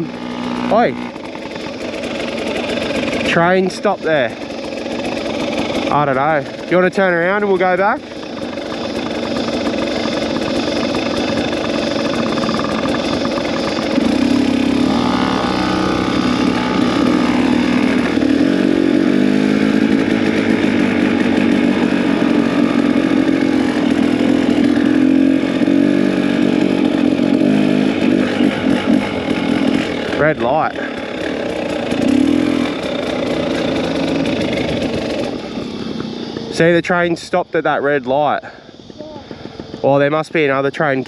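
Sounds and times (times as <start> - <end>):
two-stroke dirt bike engine: 0.0 - 41.0.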